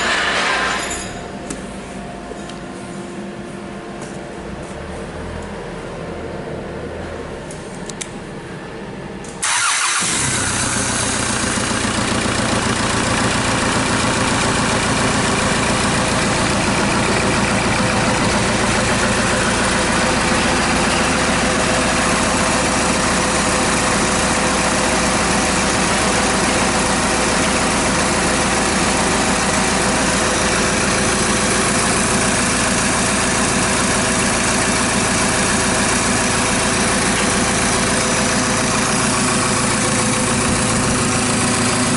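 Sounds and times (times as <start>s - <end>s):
diesel engine starting and idling: 0.0s - 1.2s, 9.2s - 41.9s.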